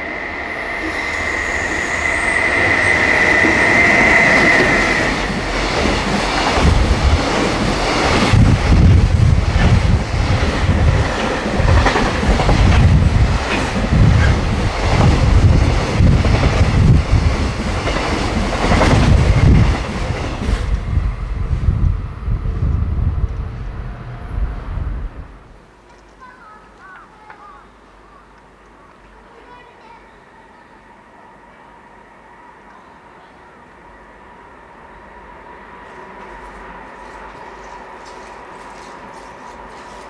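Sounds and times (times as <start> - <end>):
electric locomotive whine: 0.0 - 25.6, 30.4 - 40.0.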